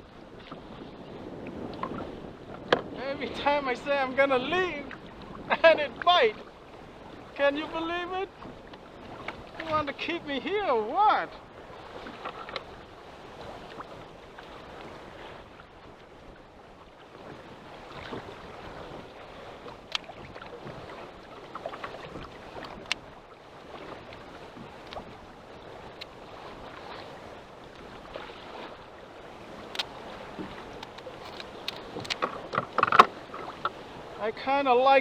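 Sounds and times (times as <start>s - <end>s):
wind on microphone: 0.0s - 34.2s
water lapping against boat hull: 0.0s - 34.5s.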